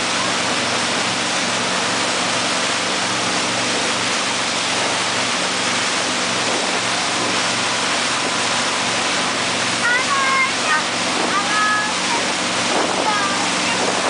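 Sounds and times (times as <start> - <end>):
boat engine humming: 0.0 - 14.0
boat wake rushing: 0.0 - 14.0.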